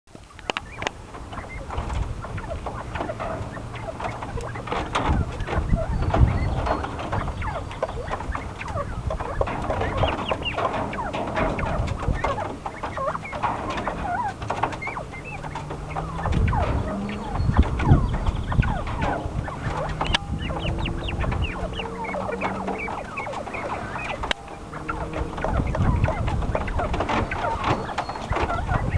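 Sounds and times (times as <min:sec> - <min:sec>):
quail chirping and clucking: 0:00.1 - 0:28.9.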